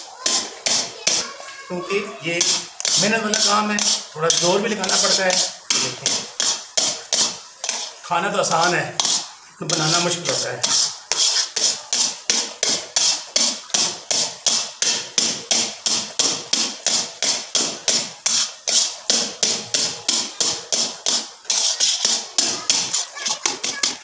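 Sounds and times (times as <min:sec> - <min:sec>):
metal spatula scraping iron pan: 0:02.3 - 0:24.0.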